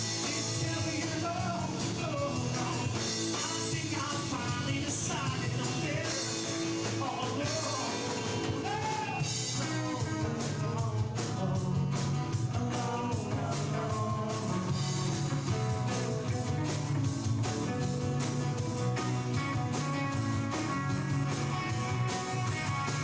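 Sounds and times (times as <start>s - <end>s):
drum kit: 0.0s - 23.0s
rock guitars: 0.0s - 23.0s.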